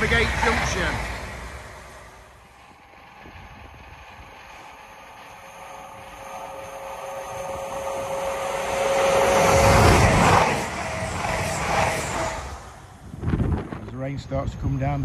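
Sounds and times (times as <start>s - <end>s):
diesel train approaching: 0.0s - 13.6s.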